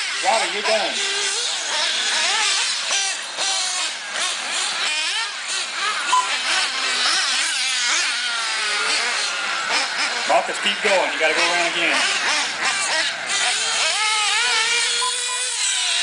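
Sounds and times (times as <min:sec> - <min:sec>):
small engines whining and revving: 0:00.0 - 0:16.0.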